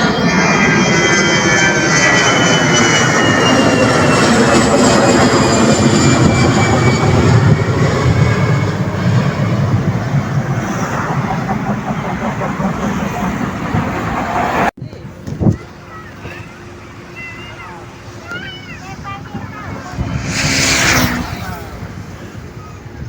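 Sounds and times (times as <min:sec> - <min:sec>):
jet airliner engine whine: 0:00.0 - 0:14.7, 0:16.6 - 0:23.0.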